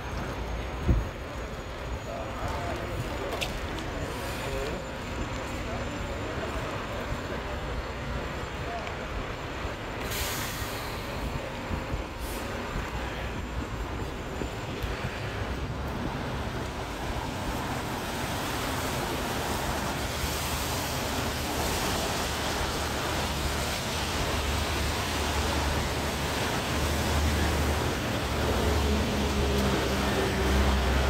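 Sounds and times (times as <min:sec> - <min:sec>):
wet street hiss: 0:00.1 - 0:31.0.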